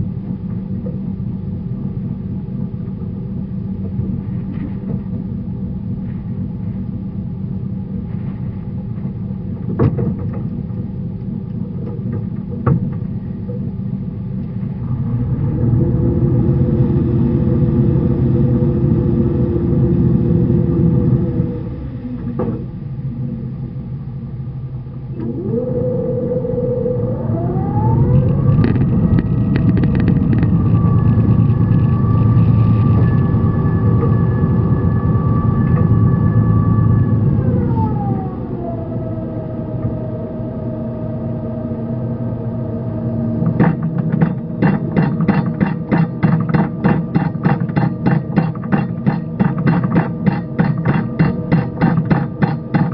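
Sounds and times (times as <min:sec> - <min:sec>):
boat engine revving with whine: 0:00.0 - 0:52.9.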